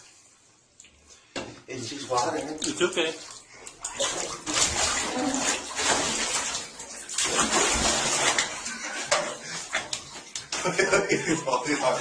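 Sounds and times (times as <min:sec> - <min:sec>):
water splashing in a bathtub: 0:00.0 - 0:12.0.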